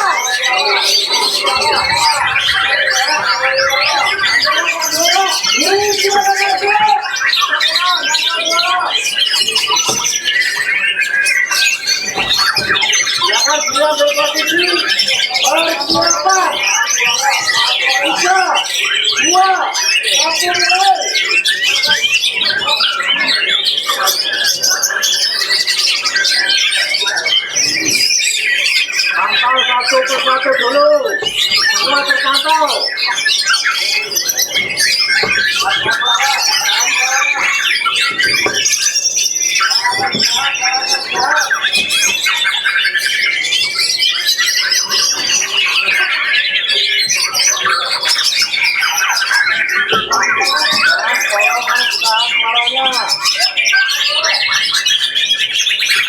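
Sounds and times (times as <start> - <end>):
caged songbirds singing: 0.0 - 56.0.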